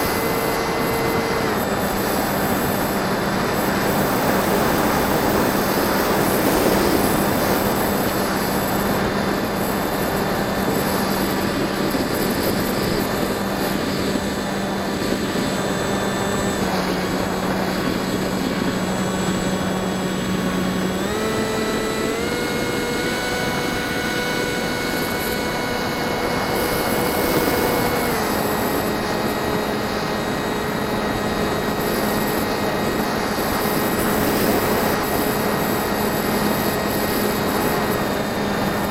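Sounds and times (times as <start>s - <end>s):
model plane motor whining: 0.0s - 38.9s.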